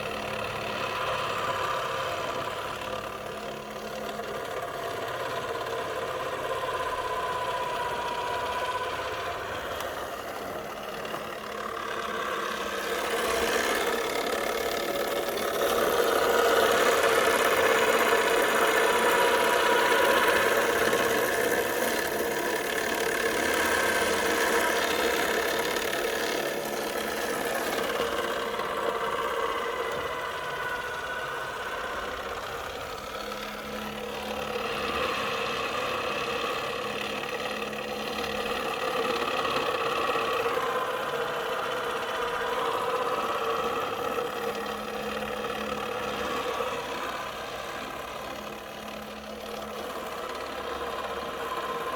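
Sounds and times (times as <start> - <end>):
toy washing machine motor hum: 0.0 - 51.9.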